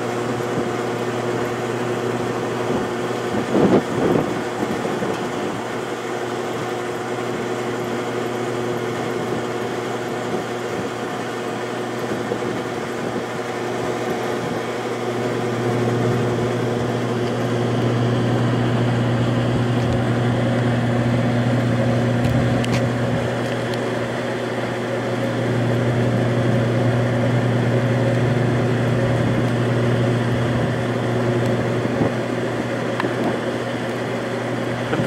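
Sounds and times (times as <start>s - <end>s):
ventilation equipment humming: 0.0s - 35.0s.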